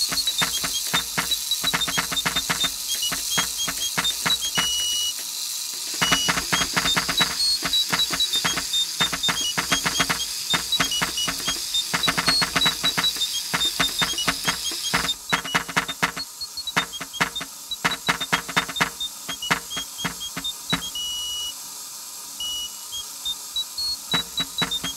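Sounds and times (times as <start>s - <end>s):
clockwork clattering metal clicks: 0.0s - 20.9s.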